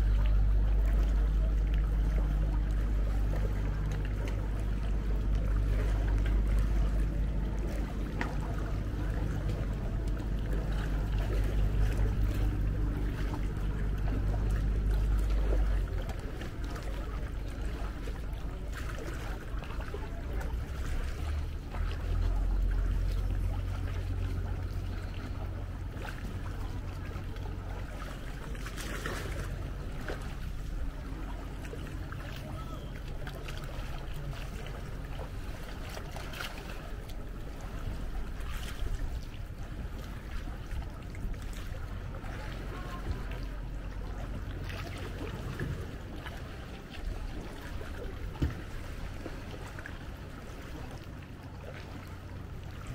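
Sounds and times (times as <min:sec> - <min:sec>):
low rumble: 0:00.0 - 0:51.3
paddle strokes splashing water: 0:00.0 - 0:52.9.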